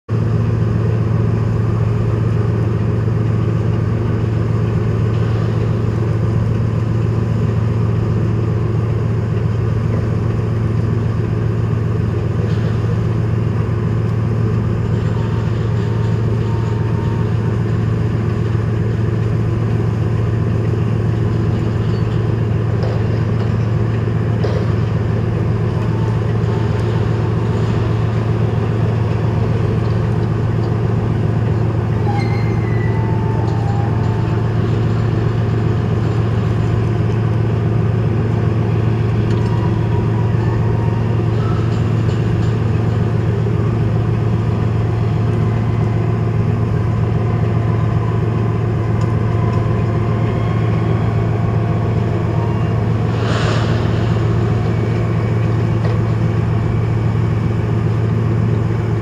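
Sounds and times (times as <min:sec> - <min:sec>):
engine droning: 0:00.1 - 0:59.0.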